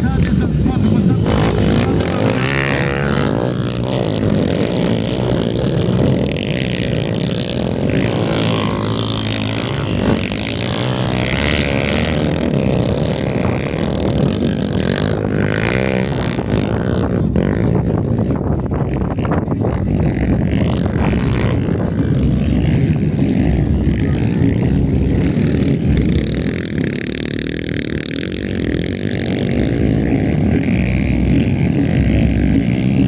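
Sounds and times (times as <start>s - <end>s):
motocross motorcycle engines revving: 0.0s - 33.0s.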